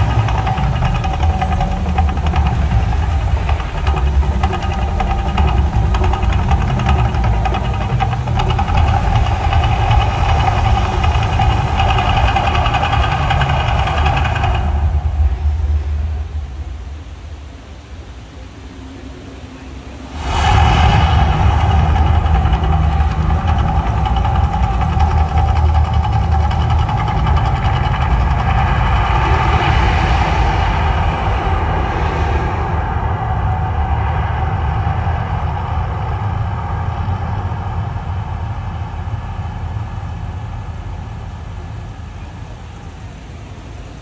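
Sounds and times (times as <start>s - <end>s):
deep rumble with rushing hiss: 0.0s - 44.0s.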